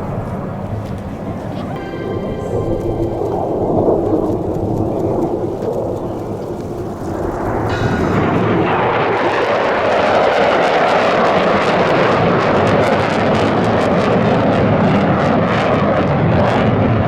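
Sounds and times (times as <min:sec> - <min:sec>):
military jet engine roar: 0:00.0 - 0:17.0.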